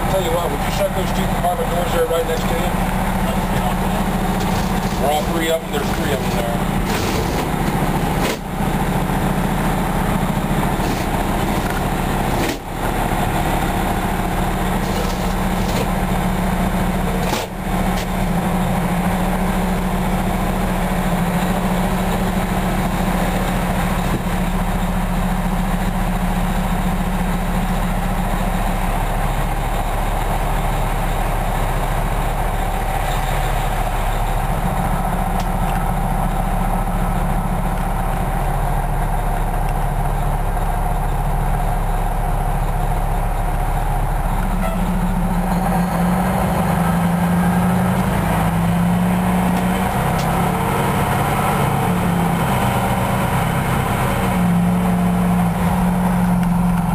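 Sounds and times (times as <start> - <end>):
diesel engine hum: 0.0 - 56.9.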